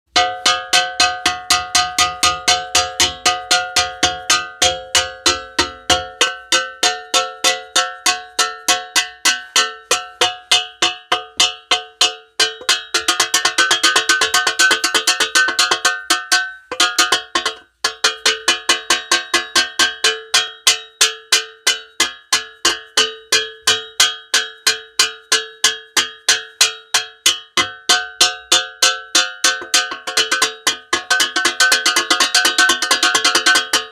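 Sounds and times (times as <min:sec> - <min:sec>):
metal spoon banging on saucepan: 0:00.1 - 0:33.9.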